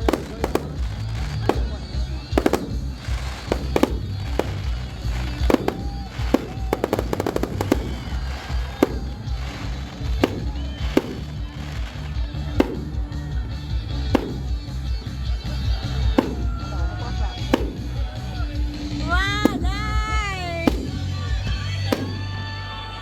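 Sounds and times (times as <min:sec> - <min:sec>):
fireworks banging: 0:00.0 - 0:23.0
loud music with pulsing bass: 0:00.0 - 0:23.0
rapid firework cracks: 0:00.0 - 0:23.0.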